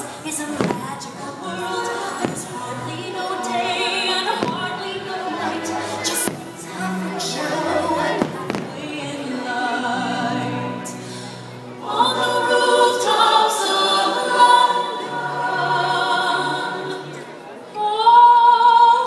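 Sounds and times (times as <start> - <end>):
choir singing held notes: 0.0 - 18.0.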